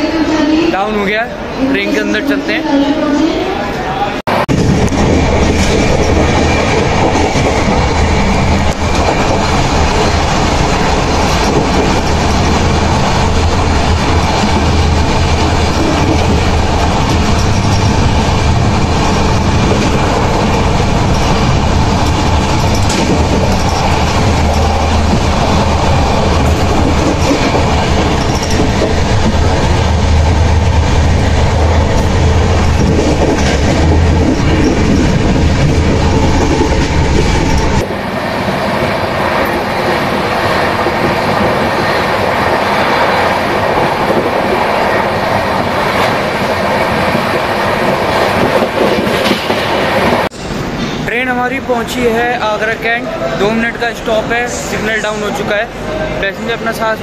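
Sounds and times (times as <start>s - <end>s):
train wheels rumbling on rail: 3.7s - 57.0s.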